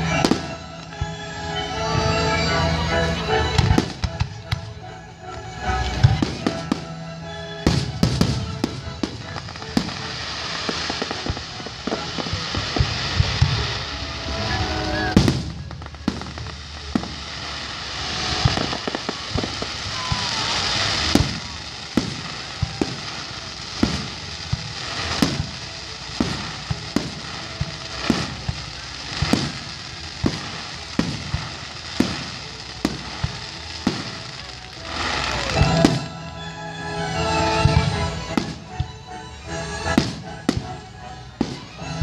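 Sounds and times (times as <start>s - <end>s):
firework bangs: 0.0s - 1.2s, 5.8s - 36.2s, 37.4s - 39.0s, 39.7s - 42.0s
fireworks crackling: 0.0s - 42.0s
music with held tones: 0.0s - 42.0s.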